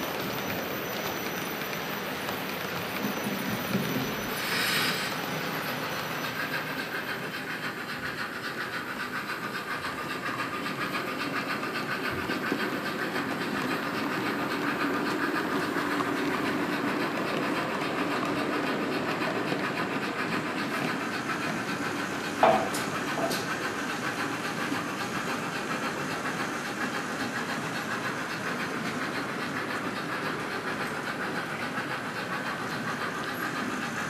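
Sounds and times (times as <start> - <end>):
model train wheels clicking rattle: 0.1 - 34.0.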